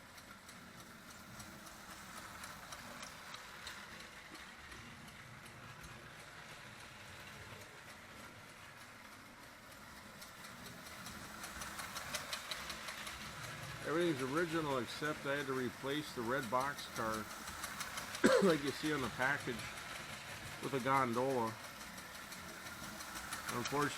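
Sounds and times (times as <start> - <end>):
toy locomotive chugging: 0.0 - 23.9.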